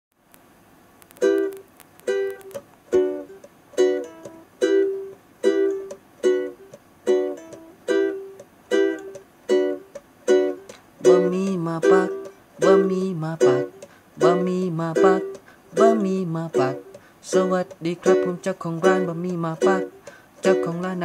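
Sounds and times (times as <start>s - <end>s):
ukulele-like chords strummed: 1.2s - 21.0s.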